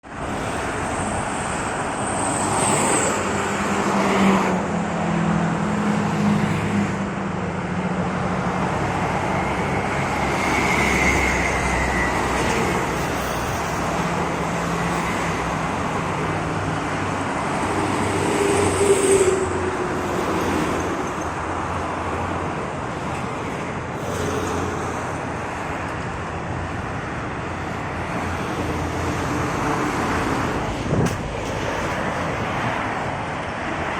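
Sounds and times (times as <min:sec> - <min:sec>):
road traffic passing: 0:00.0 - 0:33.9.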